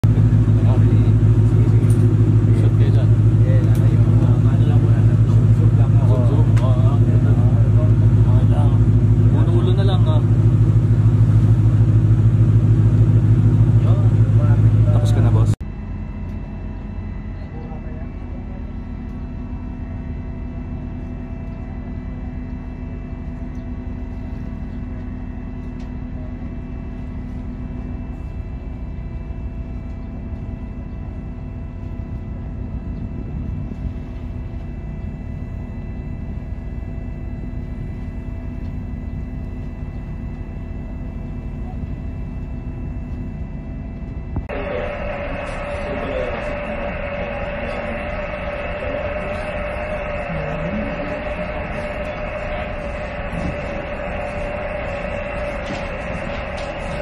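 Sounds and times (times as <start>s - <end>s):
ship engine rumbling: 0.0s - 57.0s.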